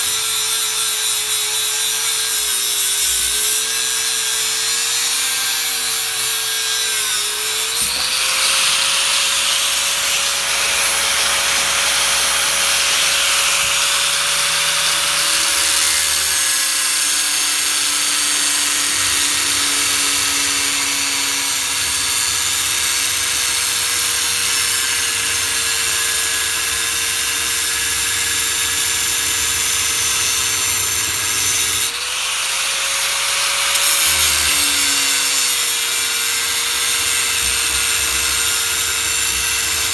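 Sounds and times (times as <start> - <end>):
power tool cutting steel: 0.0 - 39.9.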